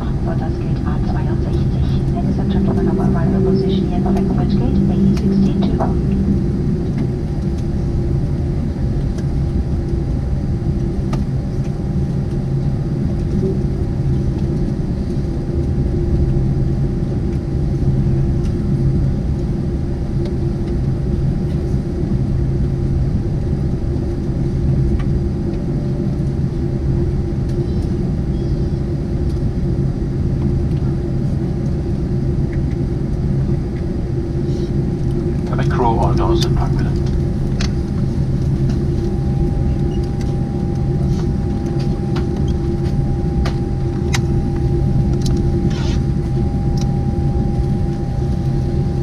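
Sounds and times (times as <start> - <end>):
aircraft cabin engine rumble: 0.0 - 49.0.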